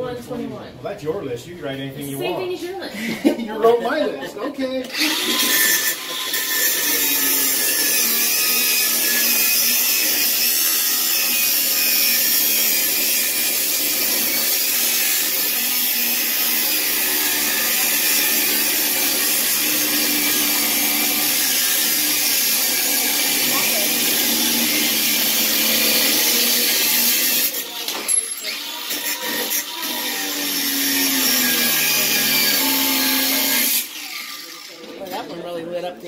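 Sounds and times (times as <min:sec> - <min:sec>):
angle grinder cutting metal: 0:04.8 - 0:35.3.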